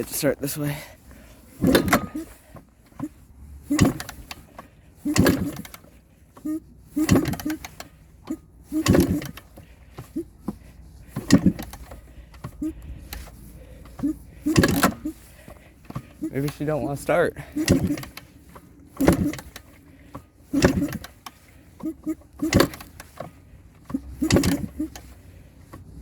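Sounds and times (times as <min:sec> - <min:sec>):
dirt bike engine kick-started: 0:01.0 - 0:26.0.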